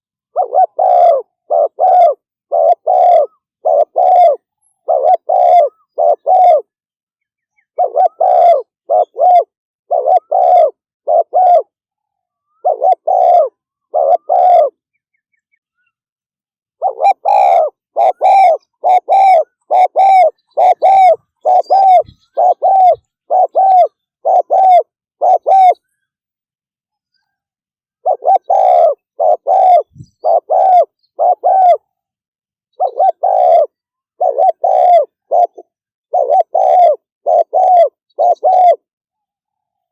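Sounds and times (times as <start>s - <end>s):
dove cooing: 0.3s - 6.7s, 7.7s - 14.8s, 16.8s - 25.9s, 28.0s - 31.9s, 32.7s - 38.9s.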